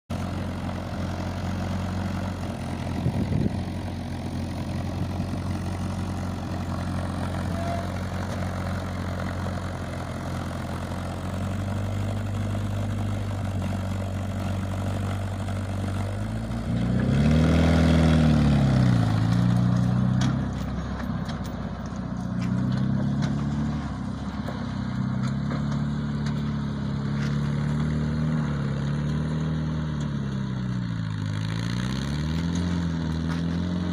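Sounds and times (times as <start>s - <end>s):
tractor engine idling and revving: 0.1s - 33.9s.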